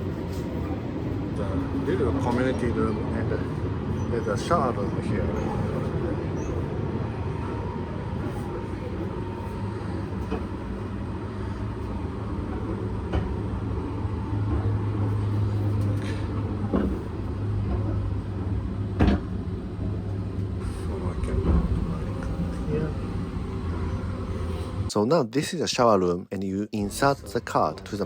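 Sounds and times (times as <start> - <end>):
train rumble inside carriage: 0.0 - 24.9, 26.8 - 28.0.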